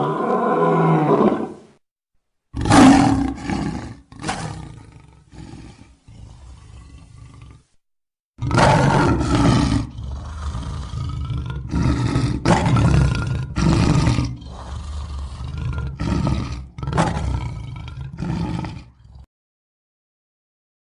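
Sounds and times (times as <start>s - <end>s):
lion roaring: 0.0s - 1.6s, 2.6s - 7.8s, 8.4s - 19.3s.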